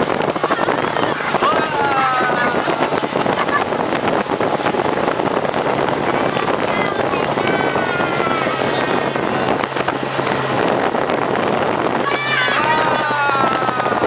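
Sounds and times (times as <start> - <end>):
rush of wind and water: 0.0 - 14.0
speedboat motor droning: 0.0 - 14.0.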